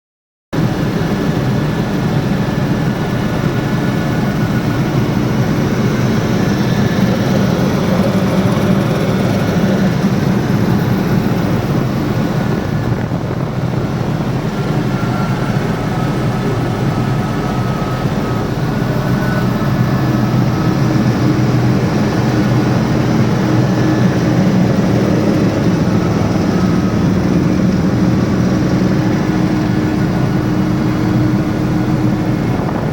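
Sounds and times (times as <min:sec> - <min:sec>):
helicopter engine and rotor drone: 0:00.6 - 0:32.9.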